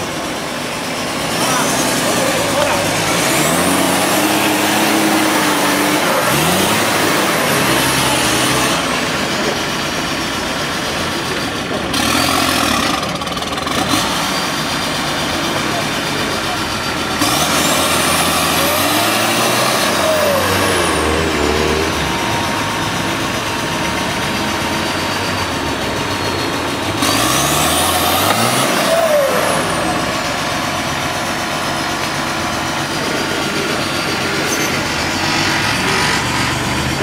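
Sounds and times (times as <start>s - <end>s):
off-road engine revving: 0.0s - 37.0s.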